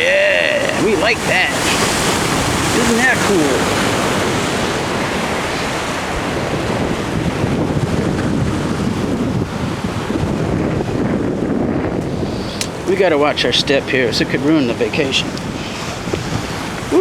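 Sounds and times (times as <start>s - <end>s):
ocean waves breaking on rocks: 0.0s - 17.0s
wind buffeting microphone: 0.0s - 17.0s.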